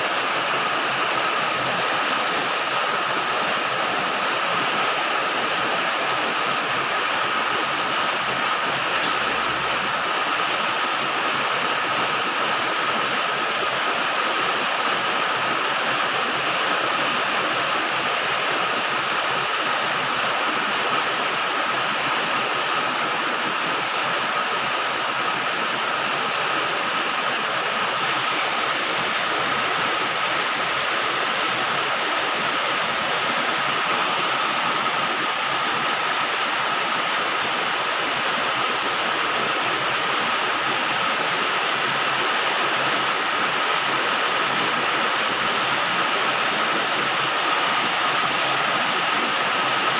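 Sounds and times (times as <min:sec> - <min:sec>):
rain on a metal roof: 0:00.0 - 0:49.9.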